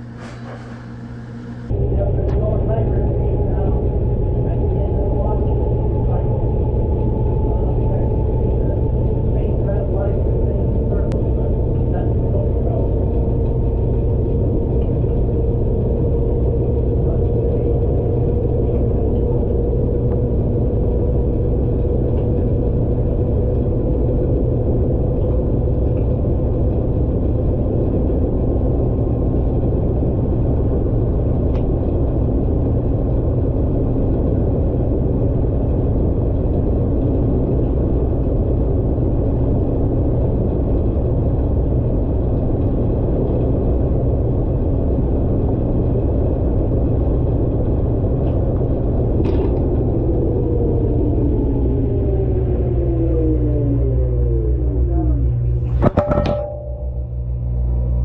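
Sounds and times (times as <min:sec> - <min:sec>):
faint motor whine: 0:00.0 - 0:58.0
washing machine spin rumble: 0:00.0 - 0:58.0.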